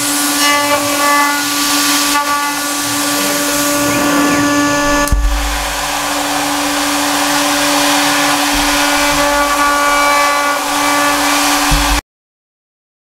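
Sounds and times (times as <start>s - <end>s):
cnc router spindle whine: 0.0s - 12.0s
compressed air mist hiss: 0.0s - 12.0s
cutter milling metal plate: 0.0s - 12.0s.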